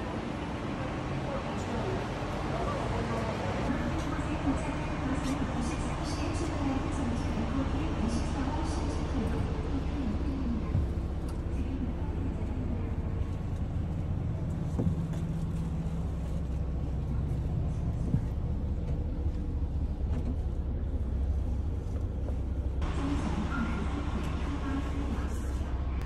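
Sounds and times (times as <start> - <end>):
bus engine hum inside cabin: 0.0 - 26.0.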